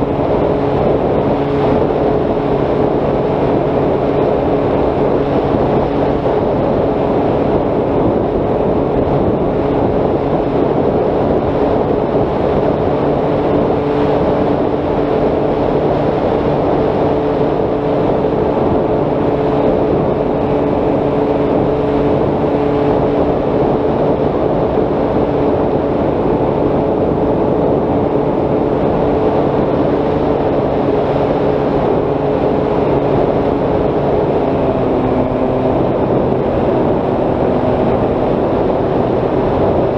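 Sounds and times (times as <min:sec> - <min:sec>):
electric motor and propeller: 0:00.0 - 0:39.9
wind on microphone: 0:00.0 - 0:39.9.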